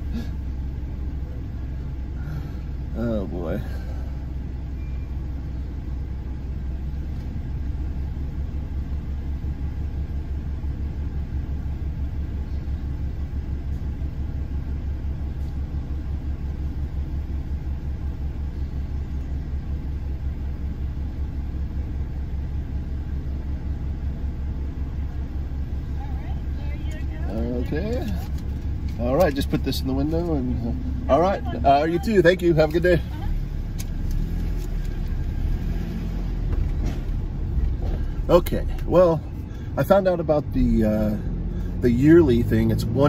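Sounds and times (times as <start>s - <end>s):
truck engine idling: 0.0s - 43.0s.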